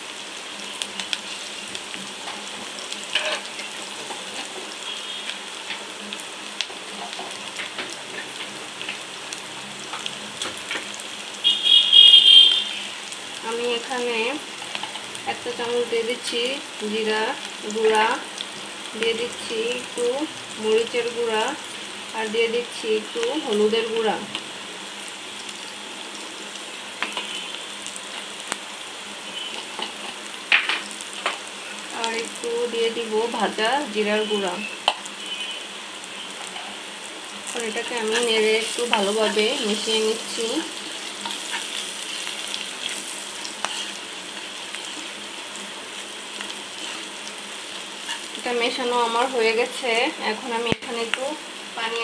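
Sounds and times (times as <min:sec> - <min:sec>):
vegetables sizzling in hot oil: 0:00.0 - 0:52.0.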